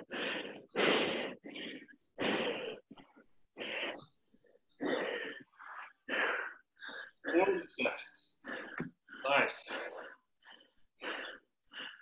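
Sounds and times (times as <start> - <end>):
person breathing hard: 0.0 - 7.6, 8.2 - 12.0.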